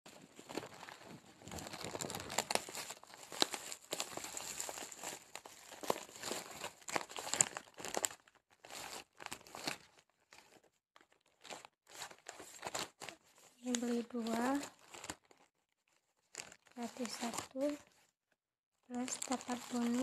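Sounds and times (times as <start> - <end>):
bubble wrap crackling: 0.1 - 18.1, 18.8 - 20.0
plastic packaging crinkling: 0.1 - 18.1, 18.9 - 20.0.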